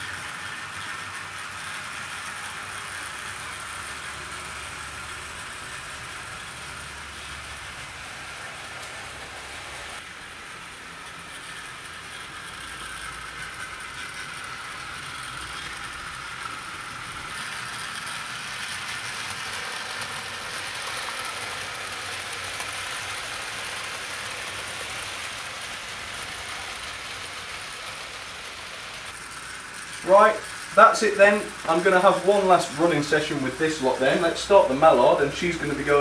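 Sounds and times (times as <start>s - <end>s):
faint motor whine: 0.0s - 36.0s
model train wheels rolling on rails: 0.0s - 36.0s.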